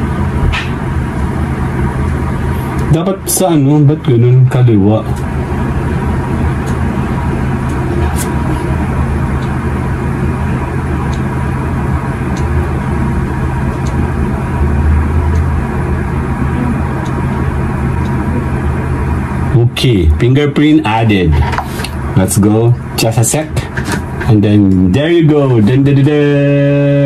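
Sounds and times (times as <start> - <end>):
mechanical droning hum: 0.0 - 27.0.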